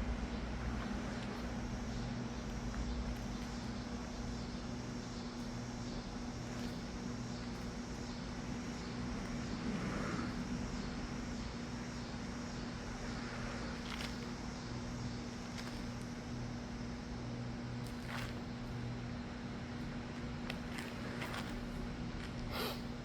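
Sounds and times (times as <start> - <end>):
low hum and rumble: 0.0 - 23.0.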